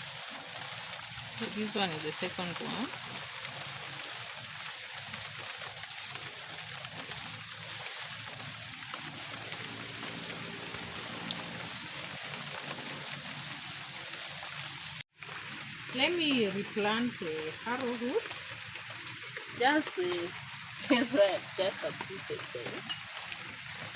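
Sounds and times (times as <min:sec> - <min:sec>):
light rain hissing: 0:00.0 - 0:23.9.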